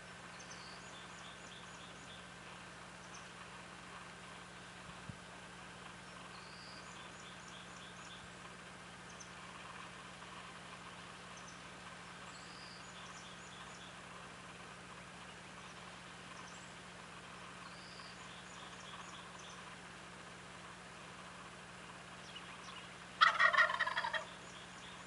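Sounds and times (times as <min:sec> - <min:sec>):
songbird singing: 0:00.0 - 0:25.0
steady low hum: 0:00.0 - 0:25.0.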